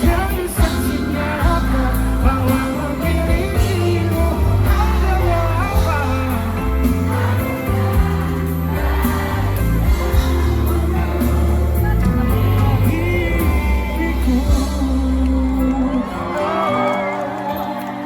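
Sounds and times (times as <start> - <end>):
steady bass: 0.0 - 16.3
live pop band ballad: 0.0 - 18.0
person singing: 0.0 - 18.0.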